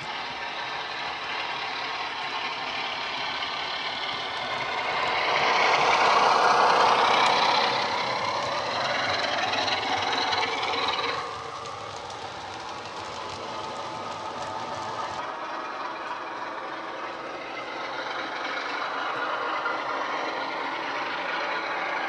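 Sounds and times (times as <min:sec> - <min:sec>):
model locomotive diesel engine sound: 0:00.0 - 0:22.0.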